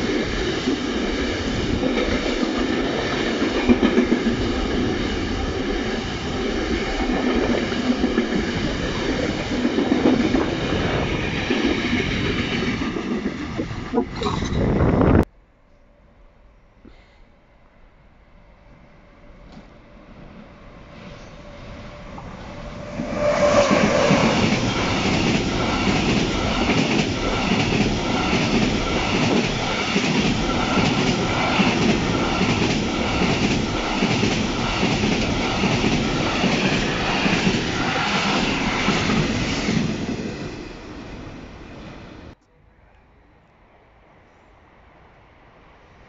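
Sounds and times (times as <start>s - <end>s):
freight train passing: 0.0s - 15.2s, 17.4s - 46.0s.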